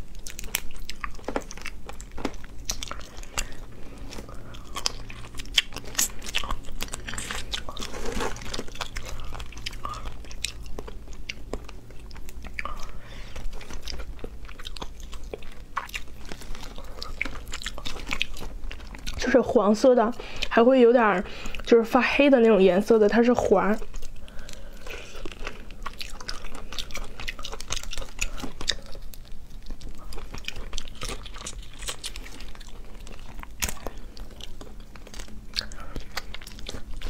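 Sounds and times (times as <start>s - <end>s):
chewing: 0.0s - 19.4s, 23.2s - 37.0s.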